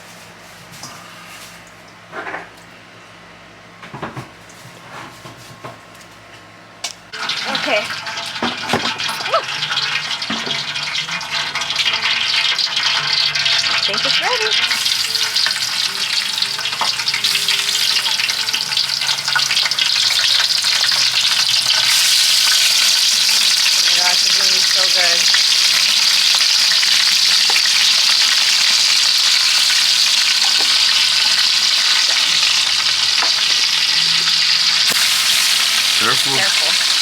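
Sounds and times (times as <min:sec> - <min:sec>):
beef sizzling in a pot: 0:07.1 - 0:37.0.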